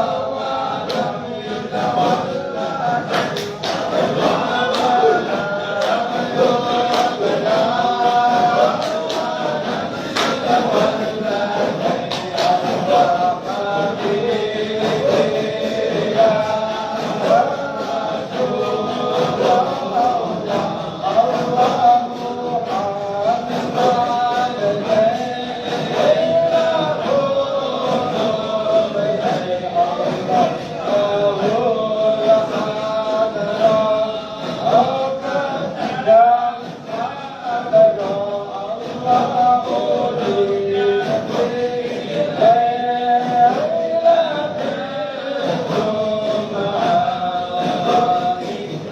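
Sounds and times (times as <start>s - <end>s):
men chanting together: 0.0s - 48.9s.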